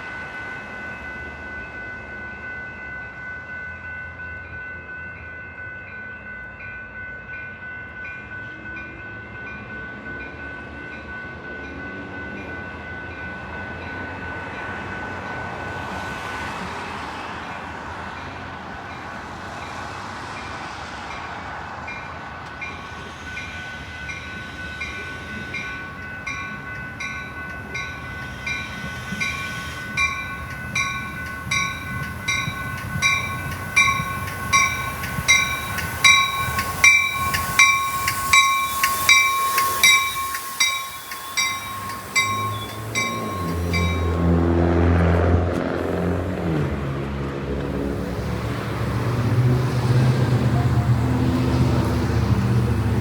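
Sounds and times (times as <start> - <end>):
railroad crossing bells ringing: 0.0 - 45.6
train rumbling past: 0.0 - 53.0.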